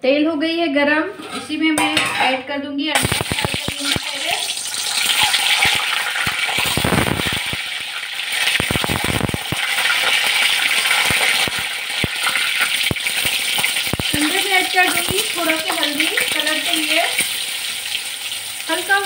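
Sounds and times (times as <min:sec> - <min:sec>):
eggs sizzling in hot oil: 0:03.0 - 0:19.0
spattering oil popping: 0:03.0 - 0:19.0.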